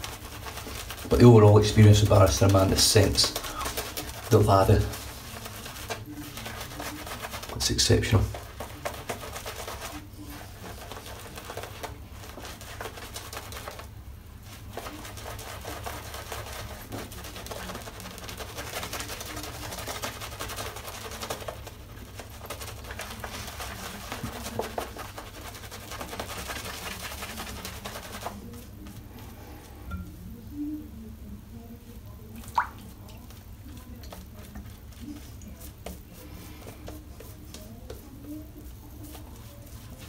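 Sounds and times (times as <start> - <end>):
shaving brush scrubbing lather: 0.0 - 29.4, 32.3 - 40.0.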